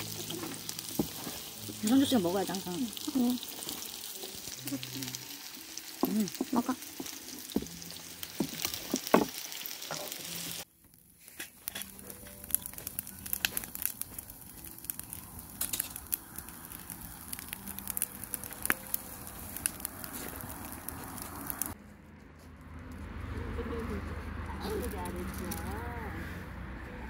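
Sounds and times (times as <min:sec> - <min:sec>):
firewood crackling and popping: 0:00.0 - 0:21.8, 0:24.6 - 0:26.0
pork sizzling on a griddle: 0:00.0 - 0:21.8.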